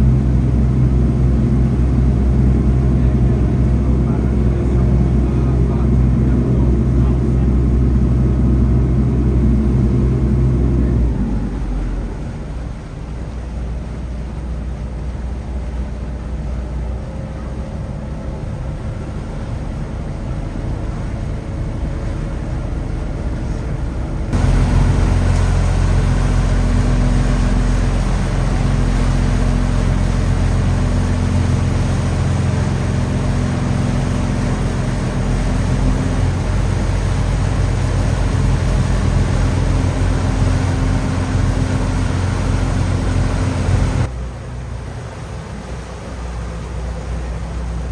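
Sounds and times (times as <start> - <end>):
ferry engines droning: 0.0 - 47.9
wind and water hiss: 0.0 - 47.9.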